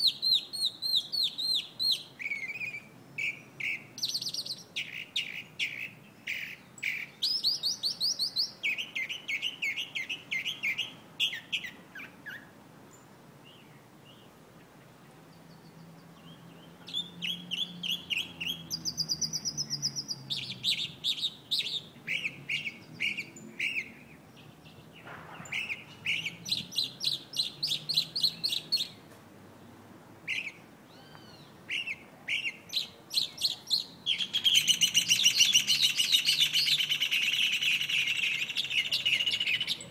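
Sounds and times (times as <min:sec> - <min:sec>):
mockingbird singing: 0:00.0 - 0:12.5, 0:15.3 - 0:29.1, 0:30.2 - 0:39.9.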